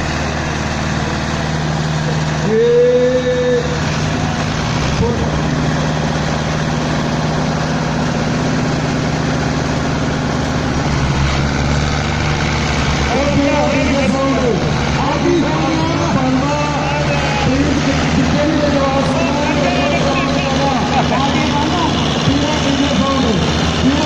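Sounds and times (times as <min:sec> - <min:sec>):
diesel tractor engine under load: 0:00.0 - 0:24.0.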